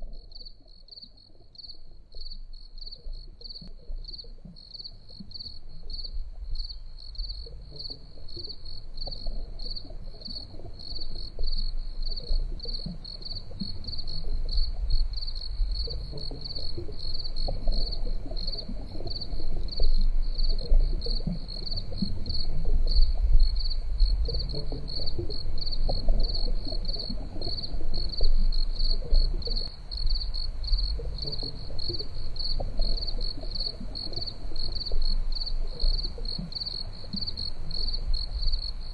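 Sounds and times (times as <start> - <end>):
crickets chirping: 0.0 - 38.9
low uneven rumble: 1.3 - 38.9.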